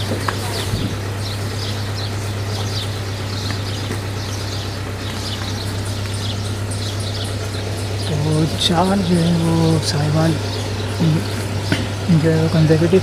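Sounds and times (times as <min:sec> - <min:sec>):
engine idling: 0:00.0 - 0:13.0
small birds chirping: 0:00.0 - 0:13.0.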